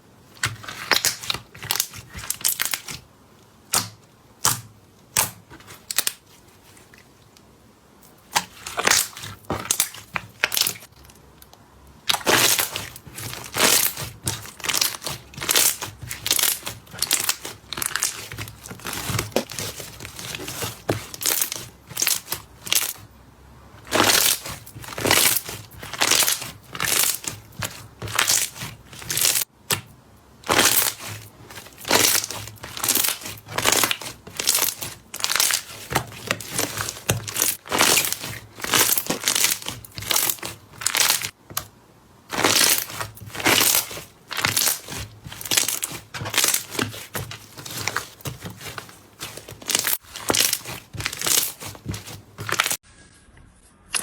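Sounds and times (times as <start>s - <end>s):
slime squishing and crackling: 0.2s - 7.0s, 8.2s - 11.3s, 12.0s - 41.7s, 42.3s - 52.8s.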